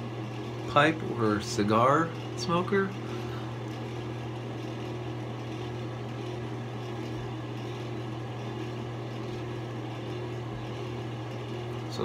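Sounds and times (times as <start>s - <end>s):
room ventilation humming: 0.0s - 12.0s.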